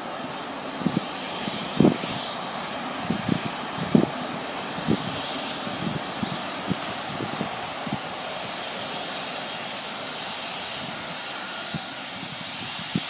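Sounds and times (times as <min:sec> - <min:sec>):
distant jet engines roaring: 0:00.0 - 0:13.0.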